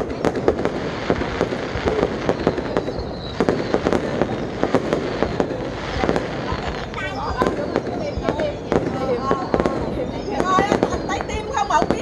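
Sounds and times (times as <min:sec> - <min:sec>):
fireworks launching and bursting: 0:00.0 - 0:12.0.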